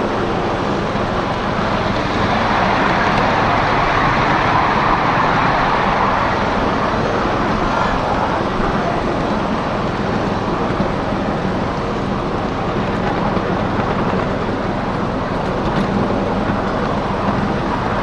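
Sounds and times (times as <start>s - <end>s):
miniature train rolling on track: 0.0s - 18.0s.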